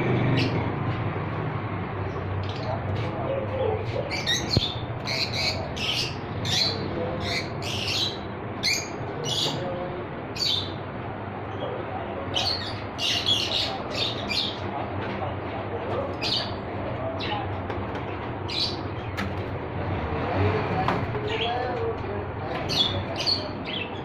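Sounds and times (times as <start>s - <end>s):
birds chirping and squawking: 0.0s - 0.9s, 2.0s - 24.0s.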